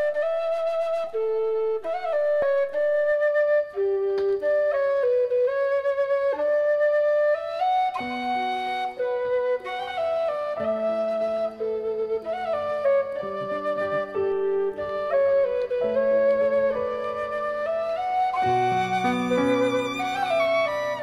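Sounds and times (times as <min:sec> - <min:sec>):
background music melody: 0:00.0 - 0:21.0.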